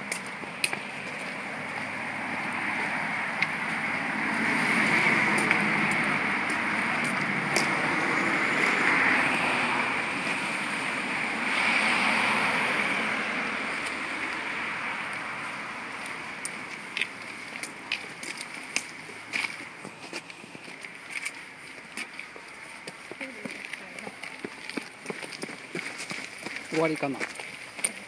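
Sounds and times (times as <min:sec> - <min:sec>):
cars passing on wet road: 0:00.0 - 0:28.0.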